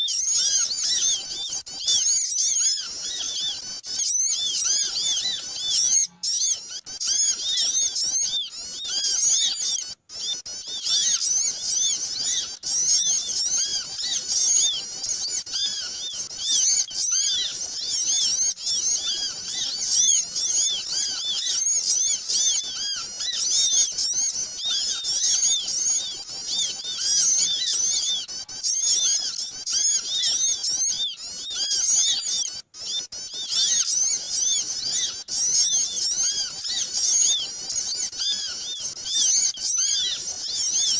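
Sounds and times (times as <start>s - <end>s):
flock of small birds chirping: 0.0s - 40.9s.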